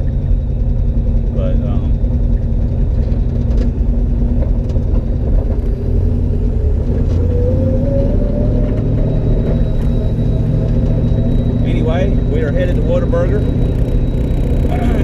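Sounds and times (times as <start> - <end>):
car engine deep rumble: 0.0 - 15.0.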